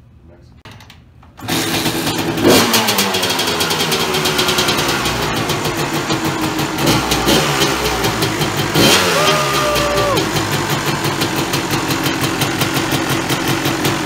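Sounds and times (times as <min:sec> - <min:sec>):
two-stroke engine revving: 0:01.4 - 0:14.0.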